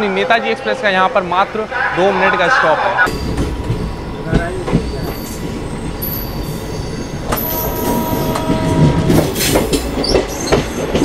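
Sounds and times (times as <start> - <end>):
train wheels rumbling: 0.6 - 11.0.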